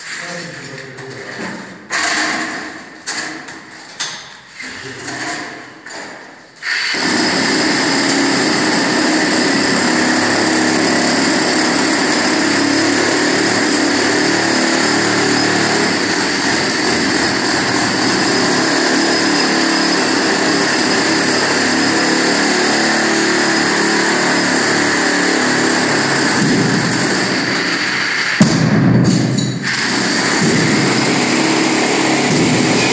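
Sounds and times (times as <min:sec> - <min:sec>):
demolition hammer running: 0:01.9 - 0:03.6, 0:05.0 - 0:32.9.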